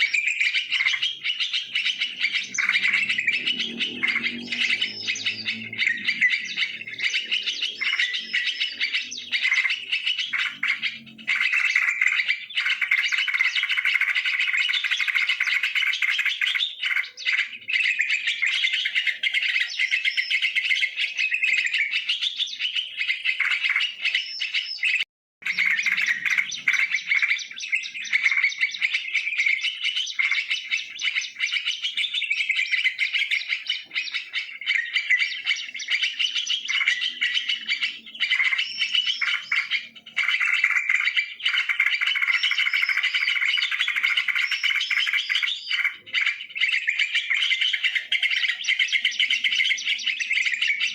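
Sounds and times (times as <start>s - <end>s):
bulbul chattering and calling: 0.0s - 50.9s.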